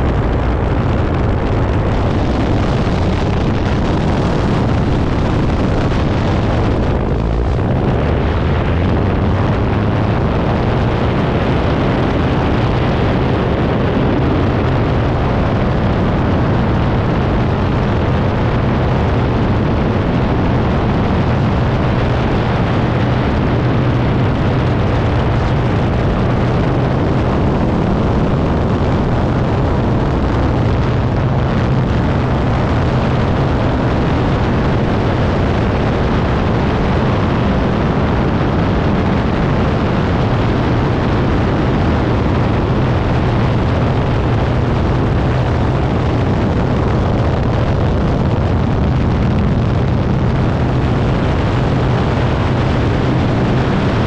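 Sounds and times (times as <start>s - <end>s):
propeller plane engine roaring: 0.0s - 54.0s
wind rush on microphone: 0.0s - 54.0s.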